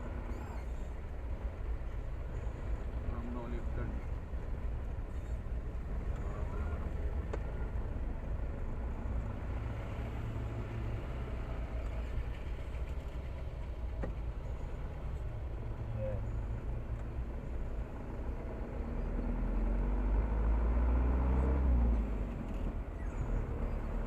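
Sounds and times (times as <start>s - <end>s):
road noise: 0.0s - 24.0s
vehicle engine rumbling: 0.0s - 24.0s.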